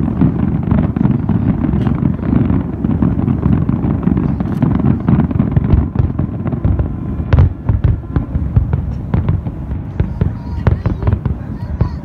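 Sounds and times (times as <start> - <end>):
fireworks booms and bangs: 0.0 - 12.0
sharp firework crack: 0.0 - 12.0.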